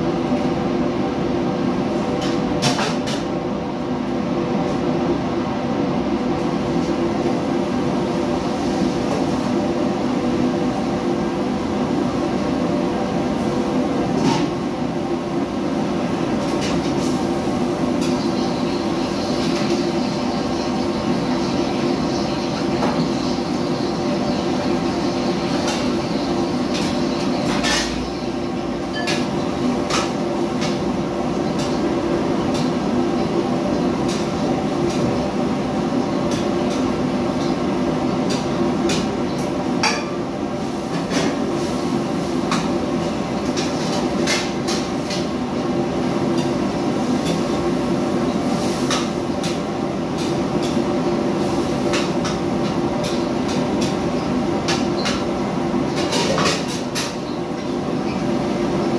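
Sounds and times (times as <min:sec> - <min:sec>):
wok burner: 0:04.3 - 0:58.9.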